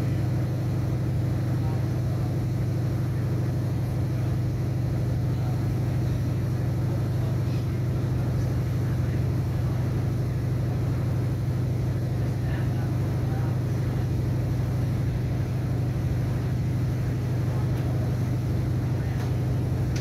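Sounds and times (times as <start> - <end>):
railcar cabin hum and rumble: 0.0 - 20.0.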